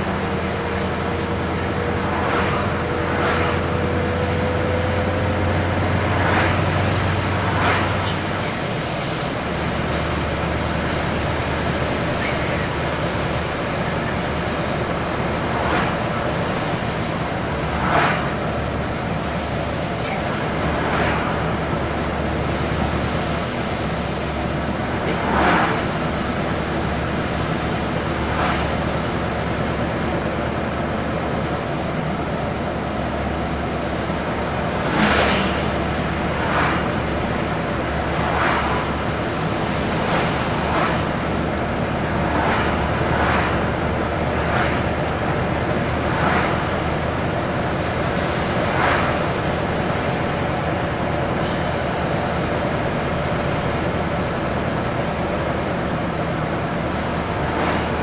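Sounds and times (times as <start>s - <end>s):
vehicle engine and tyre noise: 0.0s - 58.0s.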